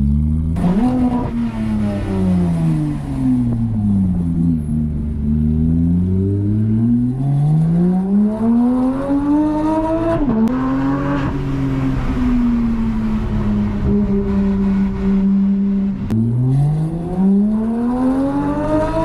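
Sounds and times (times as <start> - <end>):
sports car engine accelerating: 0.0 - 19.0.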